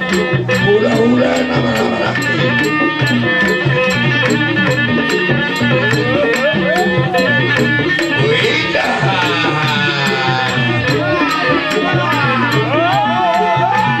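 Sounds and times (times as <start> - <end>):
ticking percussion beat: 0.0 - 14.0.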